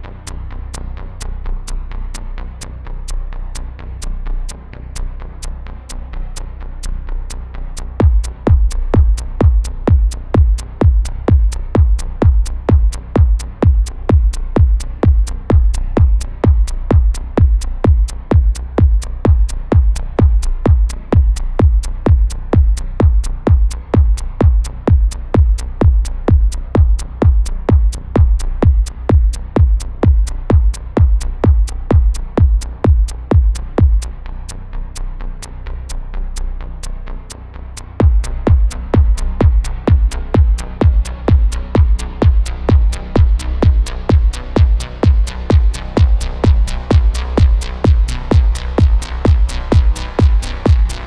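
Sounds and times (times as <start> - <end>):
four-on-the-floor kick drum: 0.0 - 51.0
heavy synth bass line: 0.0 - 51.0.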